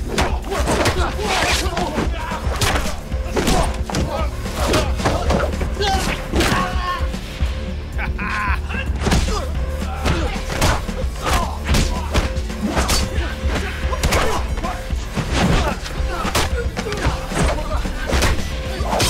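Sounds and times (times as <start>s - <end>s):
music with deep bass: 0.0s - 19.0s.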